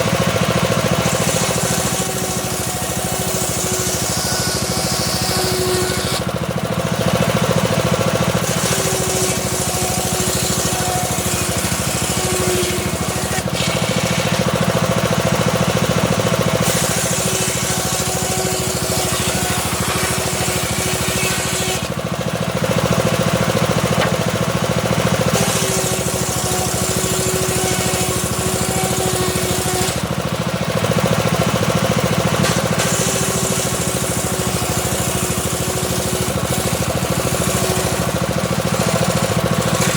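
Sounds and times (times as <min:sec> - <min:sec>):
circular saw motor drone: 0:00.0 - 0:39.9
saw blade cutting wood: 0:00.0 - 0:39.9.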